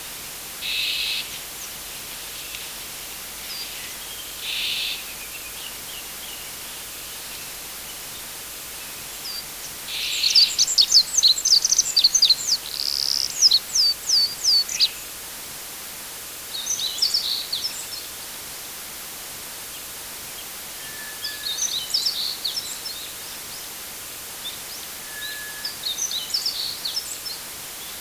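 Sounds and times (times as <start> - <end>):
steady faint hiss: 0.0 - 28.0
songbird singing: 0.6 - 15.2, 16.5 - 18.3, 19.7 - 23.8, 24.4 - 28.0.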